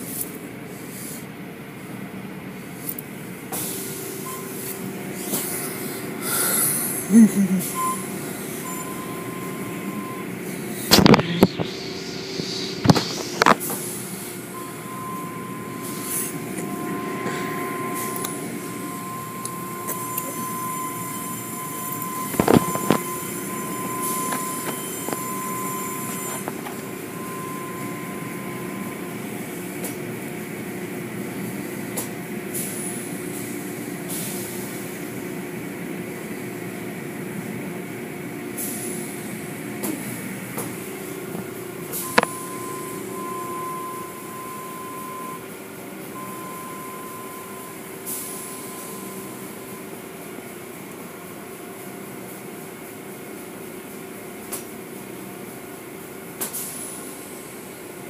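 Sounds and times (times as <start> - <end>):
car wash machinery whine: 0.0 - 58.0.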